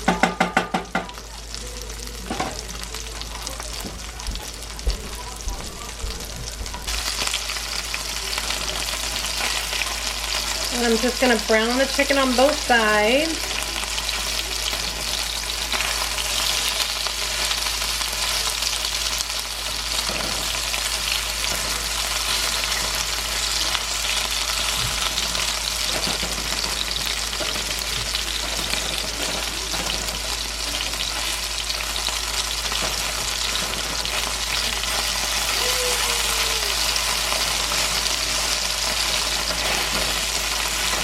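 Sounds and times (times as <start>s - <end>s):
chicken frying in hot oil: 0.0s - 41.0s.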